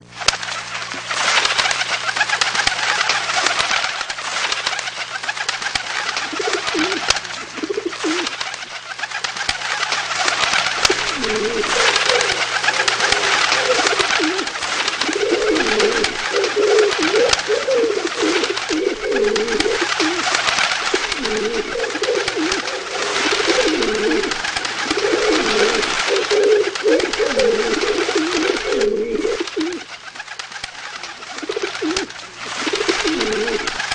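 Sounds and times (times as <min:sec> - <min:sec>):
pigeons cooing: 0:00.0 - 0:33.9
wings fluttering: 0:00.0 - 0:33.9.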